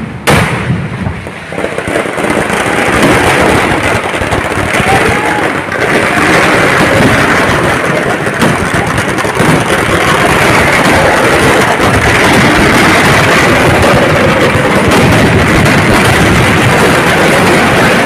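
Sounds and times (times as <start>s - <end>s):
firecracker explosions: 0.0s - 18.0s.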